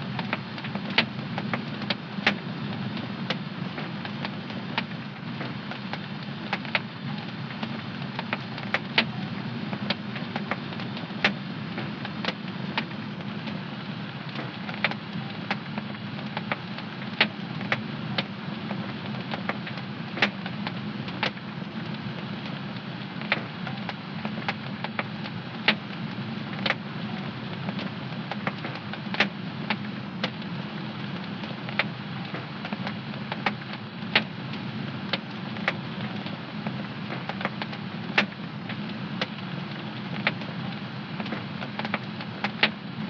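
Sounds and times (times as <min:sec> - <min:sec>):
wood fire popping: 0:00.1 - 0:43.0.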